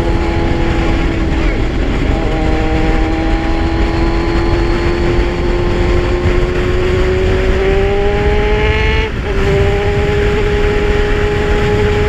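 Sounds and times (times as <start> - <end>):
wind rushing: 0.0 - 12.0.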